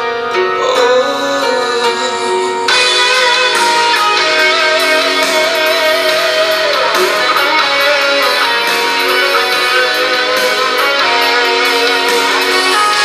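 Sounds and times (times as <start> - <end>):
guitar song through small speaker: 0.0 - 13.0.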